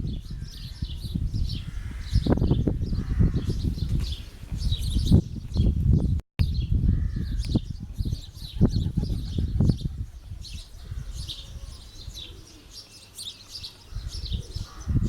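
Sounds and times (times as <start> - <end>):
wind rumble on microphone: 0.0 - 12.3, 13.9 - 15.0
small birds chirping: 0.0 - 15.0.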